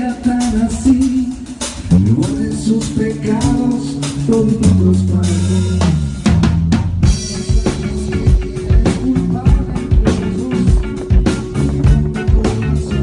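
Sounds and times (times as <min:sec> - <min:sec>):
drum kit kick and snare: 0:00.0 - 0:13.0
held bass notes: 0:00.0 - 0:13.0
live band playing: 0:00.0 - 0:13.0.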